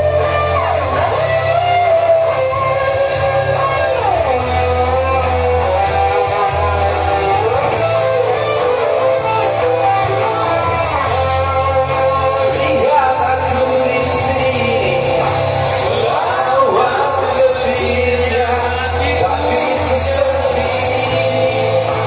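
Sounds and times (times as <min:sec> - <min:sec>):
guitar with sliding notes: 0:00.0 - 0:22.0
steady bass: 0:00.0 - 0:22.0.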